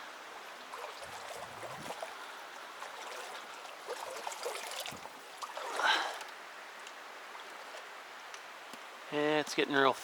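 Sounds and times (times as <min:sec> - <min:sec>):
mountain stream flowing: 0:00.0 - 0:10.0.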